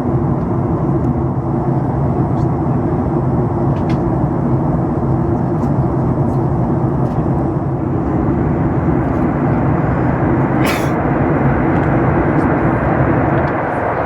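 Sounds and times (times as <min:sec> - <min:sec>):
airplane cabin airflow and engine noise: 0:00.0 - 0:14.0.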